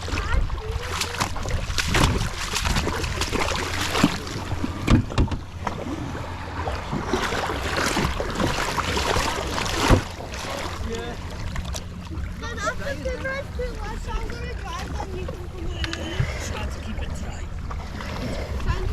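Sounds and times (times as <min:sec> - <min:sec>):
jet ski engine humming: 0:00.0 - 0:18.9
water slapping and spray: 0:00.0 - 0:18.9
wind buffeting microphone: 0:00.0 - 0:18.9.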